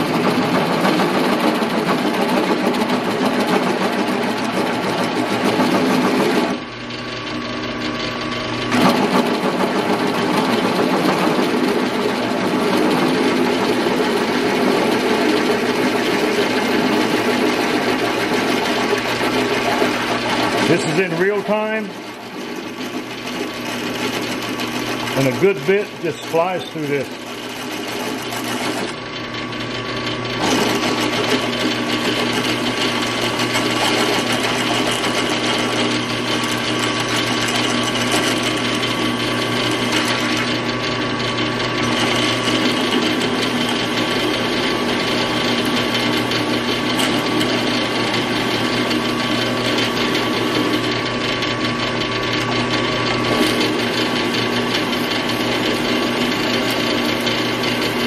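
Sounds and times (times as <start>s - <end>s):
drill press motor hum: 0.0s - 58.0s.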